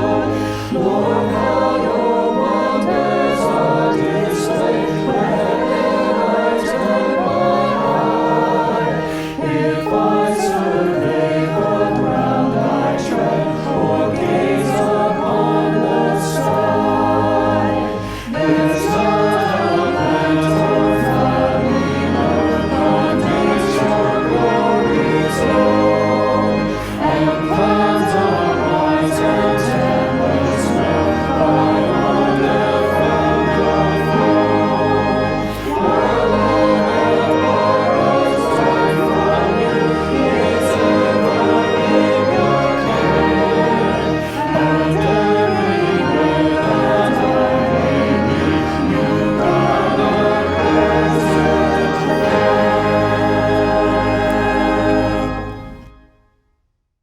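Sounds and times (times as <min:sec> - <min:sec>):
church choir singing: 0:00.0 - 0:56.2.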